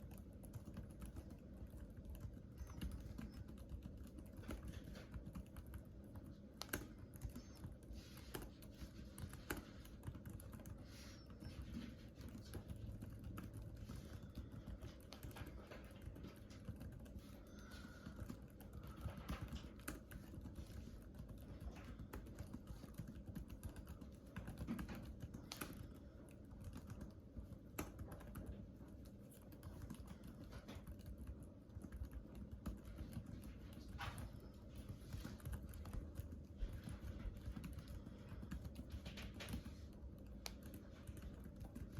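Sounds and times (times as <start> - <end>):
typing on a keyboard: 0.0 - 41.9.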